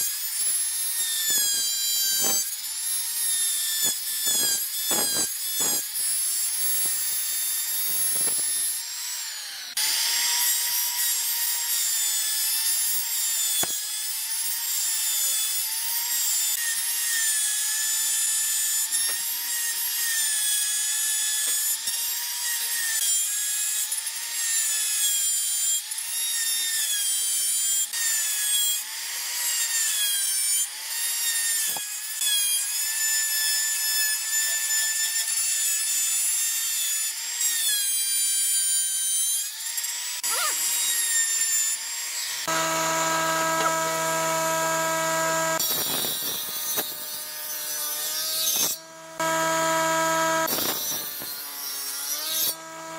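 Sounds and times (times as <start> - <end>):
router whining cutting wood: 0.0 - 52.9.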